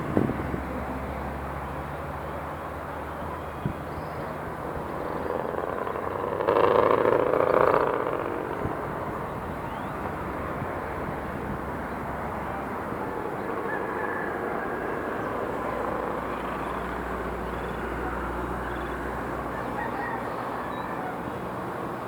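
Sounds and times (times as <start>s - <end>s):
city street traffic: 0.0s - 22.0s
motor vehicle passing close: 4.2s - 22.0s.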